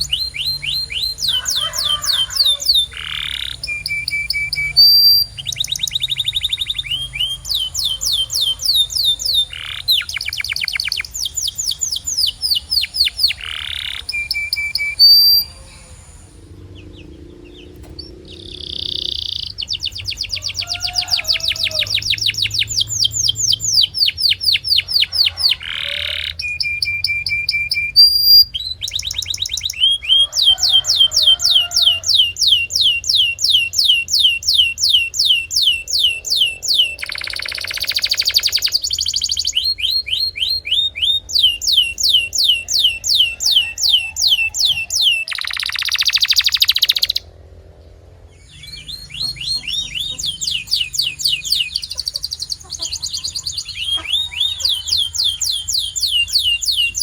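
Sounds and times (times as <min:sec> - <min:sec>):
canary singing: 0:00.0 - 0:47.4, 0:48.3 - 0:57.0.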